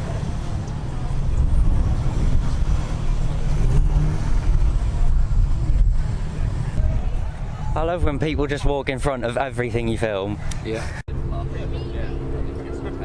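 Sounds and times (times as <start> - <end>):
car engine rumbling unevenly: 0.0 - 13.0.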